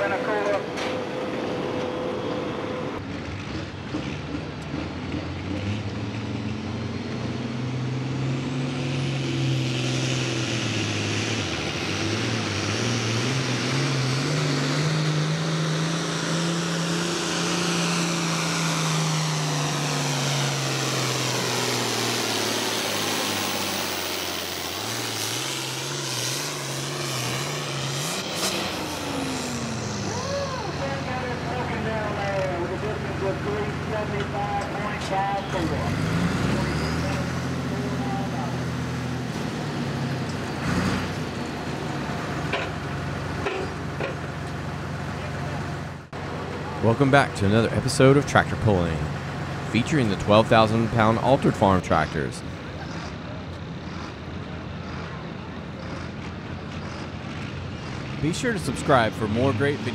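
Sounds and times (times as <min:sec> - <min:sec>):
diesel tractor engine revving: 0:00.0 - 0:59.9.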